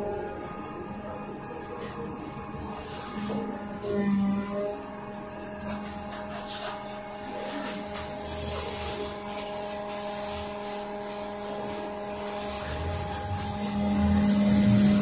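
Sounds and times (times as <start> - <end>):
electrical hum and whine: 0.0 - 15.0.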